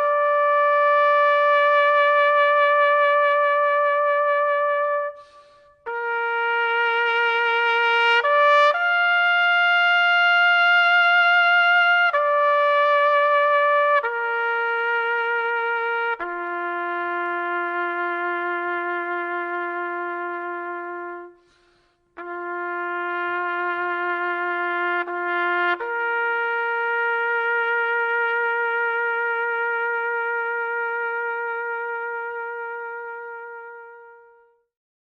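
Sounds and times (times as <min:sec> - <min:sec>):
solo trumpet long notes: 0:00.0 - 0:34.7.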